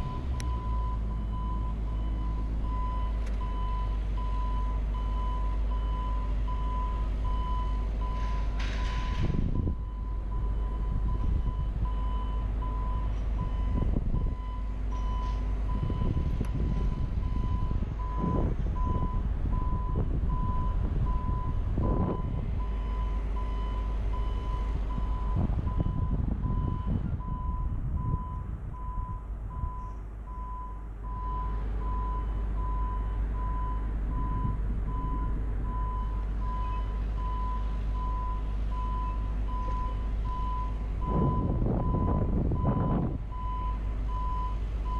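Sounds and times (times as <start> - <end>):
wind rumble: 0.0 - 44.9.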